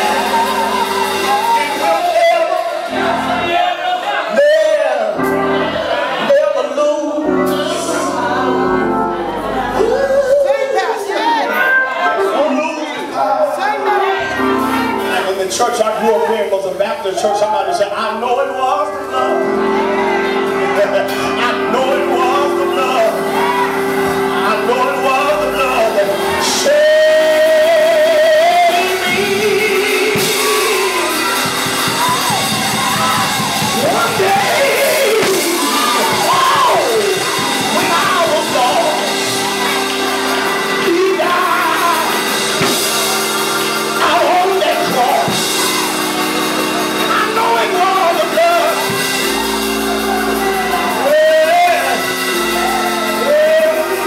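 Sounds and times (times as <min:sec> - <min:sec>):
preacher chanting amplified: 0:00.0 - 0:54.0
sustained instrumental chords: 0:00.0 - 0:54.0.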